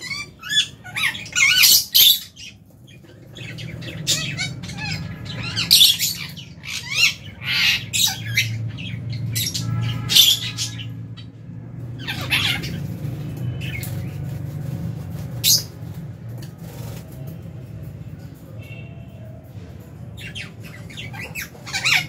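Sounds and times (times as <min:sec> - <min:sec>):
lovebirds squawking and chirping: 0:00.0 - 0:17.3, 0:20.2 - 0:22.0.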